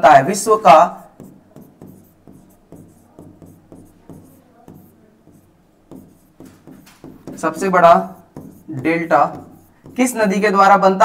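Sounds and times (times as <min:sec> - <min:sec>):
stylus scratching on glass: 0:00.9 - 0:10.2.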